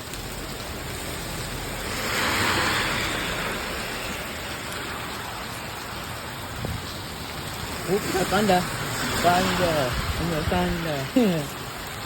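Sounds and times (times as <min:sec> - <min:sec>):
car tyres hissing on wet road: 0:00.0 - 0:12.0
steady rain hiss: 0:00.0 - 0:12.0.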